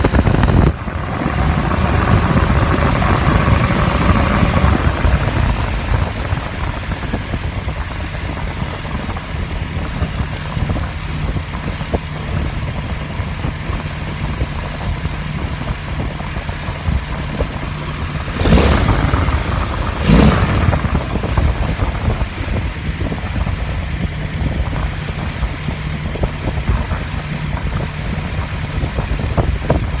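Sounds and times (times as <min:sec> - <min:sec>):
engine bursts: 0:00.0 - 0:30.0
engine idling: 0:00.0 - 0:30.0.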